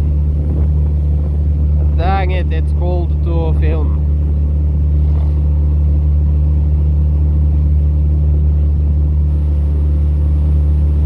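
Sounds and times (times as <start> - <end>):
outboard motor droning: 0.0 - 11.0.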